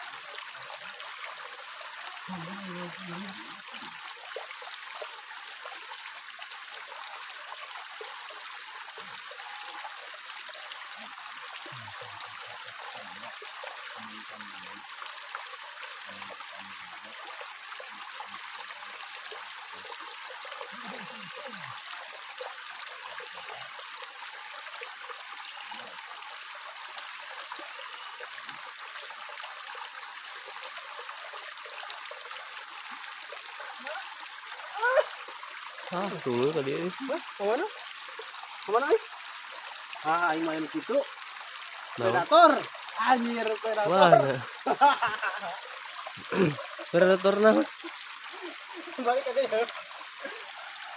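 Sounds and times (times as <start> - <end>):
stream trickling over stones: 0.0 - 50.9.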